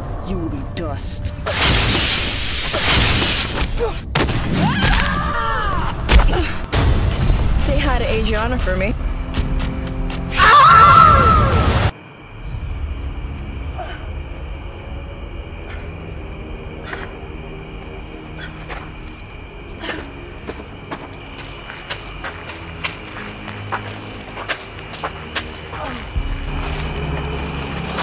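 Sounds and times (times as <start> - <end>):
crickets chirring: 0.0 - 4.2, 5.5 - 28.0.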